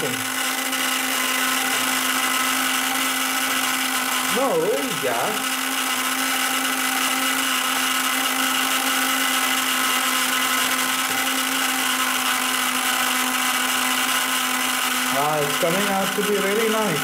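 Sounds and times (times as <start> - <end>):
small electric motor whirring: 0.0 - 17.0.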